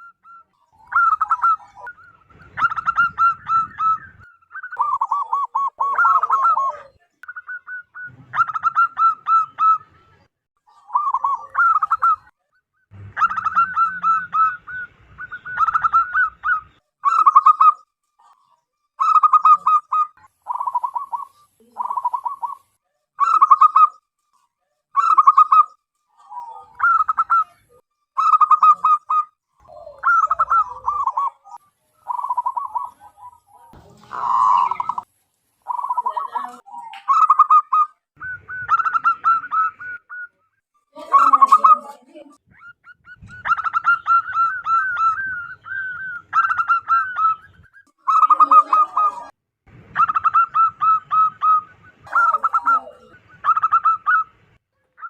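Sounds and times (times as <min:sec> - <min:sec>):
dove cooing: 0:00.0 - 0:24.0, 0:25.0 - 0:40.4, 0:41.0 - 0:49.3, 0:49.9 - 0:55.0.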